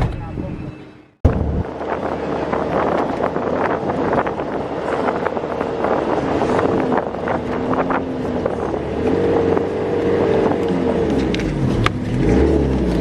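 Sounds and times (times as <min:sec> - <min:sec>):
bus engine running: 0:00.0 - 0:13.0
road noise: 0:00.0 - 0:13.0.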